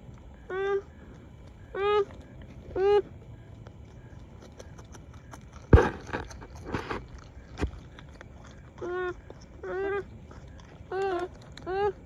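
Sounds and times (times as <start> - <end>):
beavers crunching food: 0.0 - 12.0.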